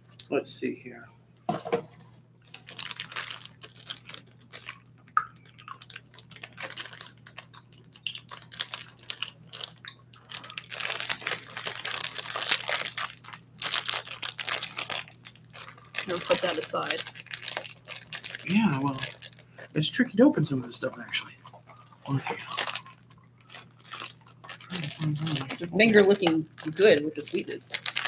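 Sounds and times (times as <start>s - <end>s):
plastic wrapper crinkling: 2.4s - 19.8s, 20.4s - 28.0s.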